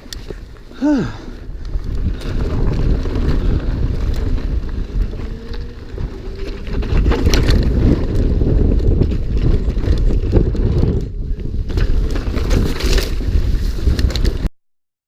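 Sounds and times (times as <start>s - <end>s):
bike rattling over ground: 0.0s - 14.5s
wind on microphone: 0.0s - 14.5s
low rumble: 0.7s - 13.4s.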